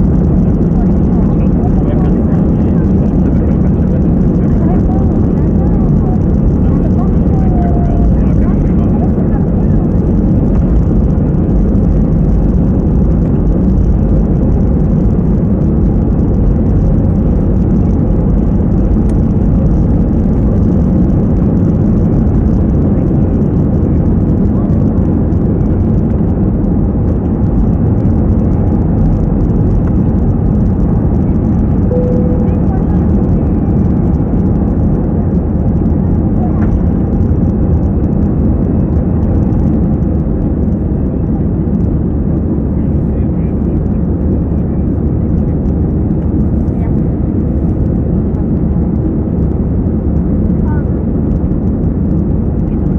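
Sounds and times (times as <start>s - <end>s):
jet engine roar in cabin: 0.0s - 52.9s.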